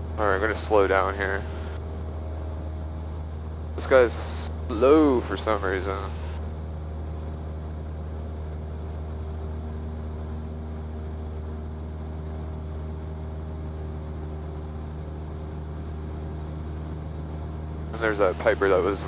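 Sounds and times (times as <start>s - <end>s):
airplane engine and propeller droning: 0.0s - 19.0s.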